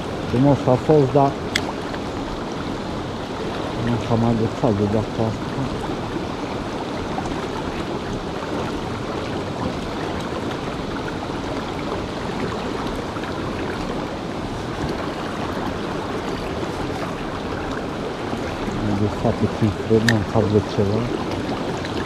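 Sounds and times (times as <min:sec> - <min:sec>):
river flowing: 0:00.0 - 0:22.0.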